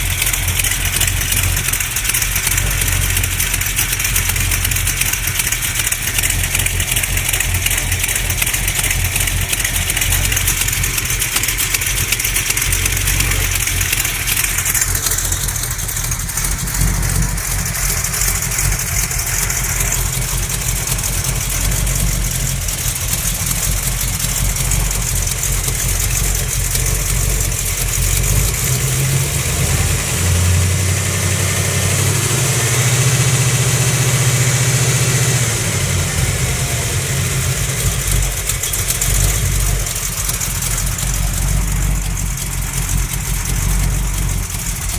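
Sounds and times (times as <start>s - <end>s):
car engine running: 0.0s - 44.9s
engine knocking: 0.0s - 44.9s.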